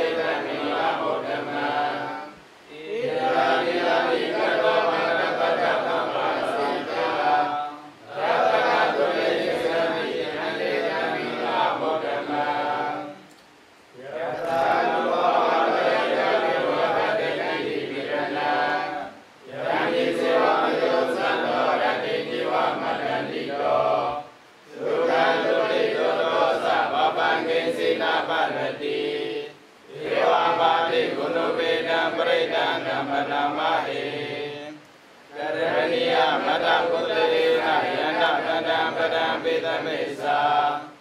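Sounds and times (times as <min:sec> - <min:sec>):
monks chanting in unison: 0:00.0 - 0:13.2, 0:14.0 - 0:41.0.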